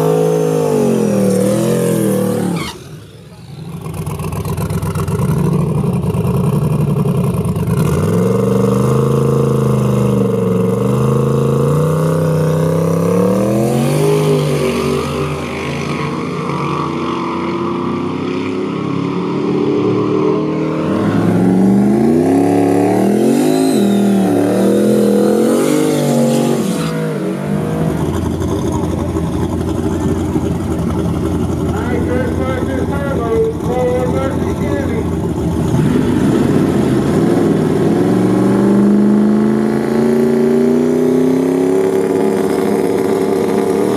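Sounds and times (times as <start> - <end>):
truck engines at full throttle: 0.0 - 43.9.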